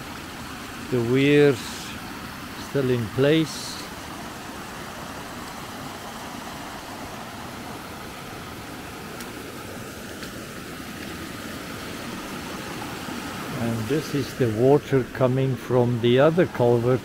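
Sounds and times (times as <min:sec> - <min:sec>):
creek rushing over weirs: 0:00.0 - 0:17.0.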